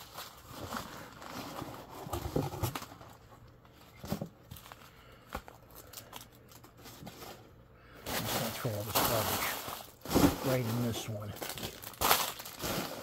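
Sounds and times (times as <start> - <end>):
packaging rustling in a box: 0.0 - 13.0.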